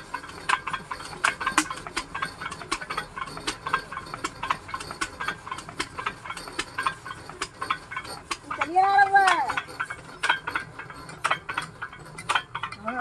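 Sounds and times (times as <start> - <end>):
diesel engine hand-cranked clicking: 0.0 - 13.0.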